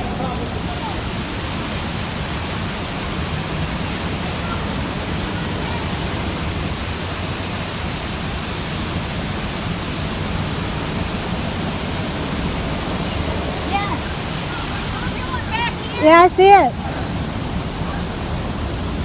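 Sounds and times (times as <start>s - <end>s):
water rushing into lock chamber: 0.0s - 19.0s.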